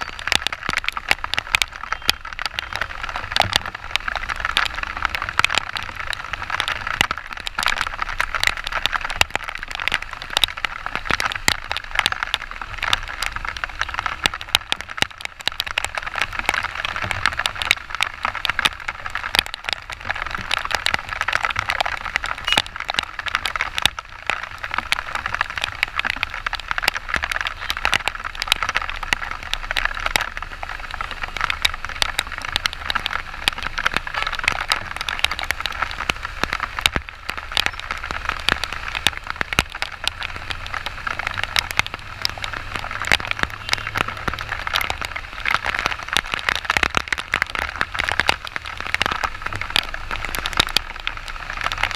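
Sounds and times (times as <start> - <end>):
heavy rain close to microphone: 0.0 - 51.9.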